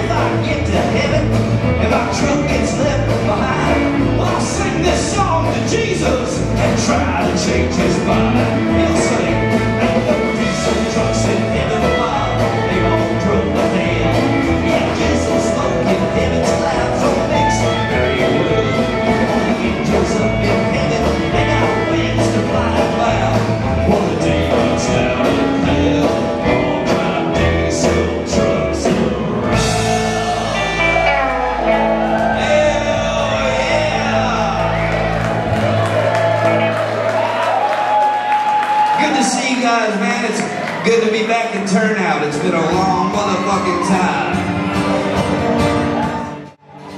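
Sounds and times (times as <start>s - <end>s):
country band playing: 0.0s - 46.9s.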